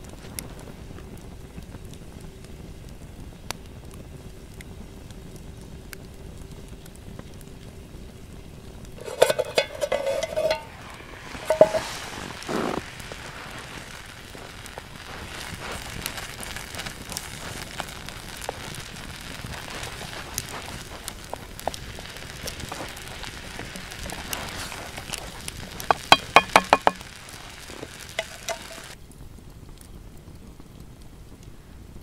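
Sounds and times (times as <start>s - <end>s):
wood crackling: 0.0s - 31.5s
soup simmering with steady hiss: 0.0s - 32.0s.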